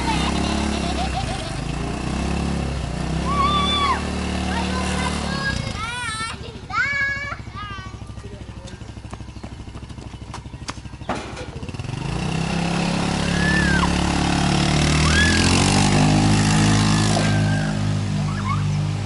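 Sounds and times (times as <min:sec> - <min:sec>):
go-kart engine driving past: 0:00.0 - 0:19.0.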